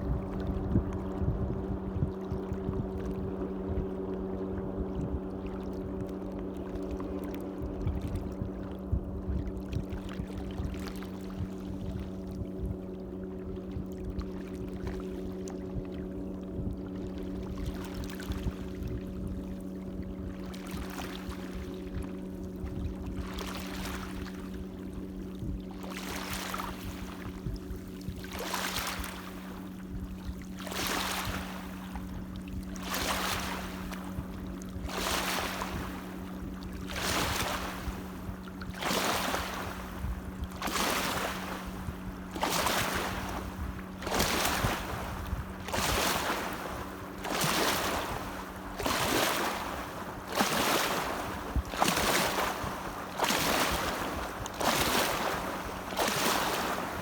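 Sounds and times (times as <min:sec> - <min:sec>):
light waves washing in: 0:00.0 - 0:57.0.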